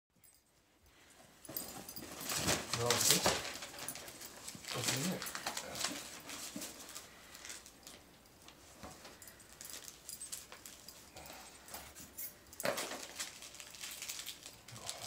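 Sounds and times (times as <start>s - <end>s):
collar tags jingling: 0.2s - 15.0s
packaging rustling: 1.4s - 15.0s.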